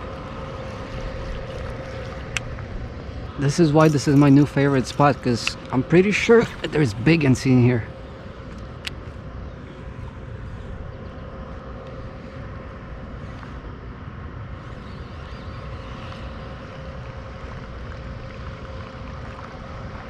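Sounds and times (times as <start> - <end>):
faint high hum: 0.0 - 20.0
open water background: 0.0 - 20.0
wind rumble on microphone: 0.0 - 20.0.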